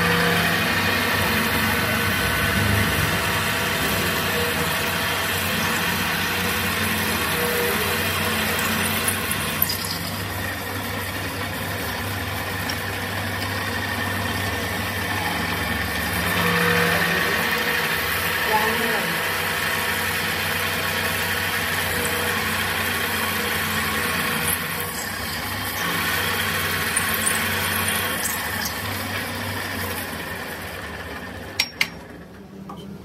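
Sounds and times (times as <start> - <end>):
drill press boring steel: 0.0 - 32.1.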